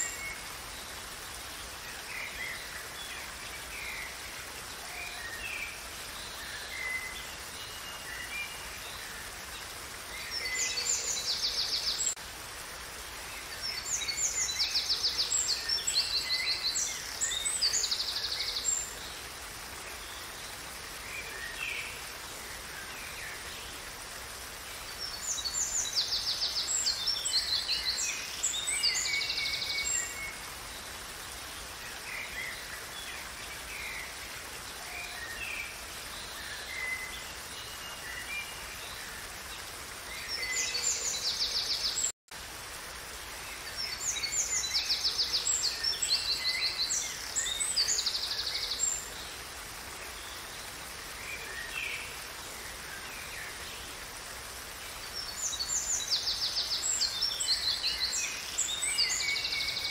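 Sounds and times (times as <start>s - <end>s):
faint flowing water: 0.0s - 59.9s
songbirds chirping and trilling: 0.0s - 59.9s.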